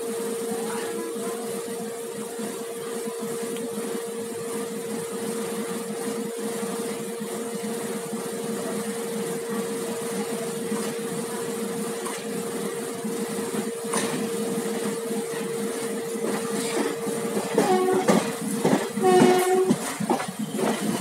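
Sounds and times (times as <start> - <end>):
passenger train running noise: 0.0 - 21.0.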